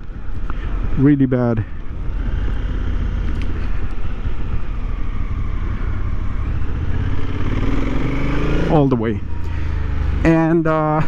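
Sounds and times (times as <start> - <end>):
wind rushing over microphone: 0.0 - 9.2
motorcycle engine and road rumble: 0.0 - 11.0.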